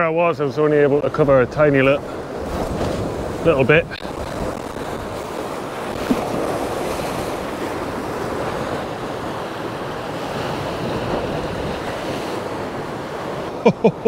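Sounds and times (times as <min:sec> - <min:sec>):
sea waves breaking on rocks: 0:00.0 - 0:14.0
wind buffeting microphone: 0:01.0 - 0:13.6.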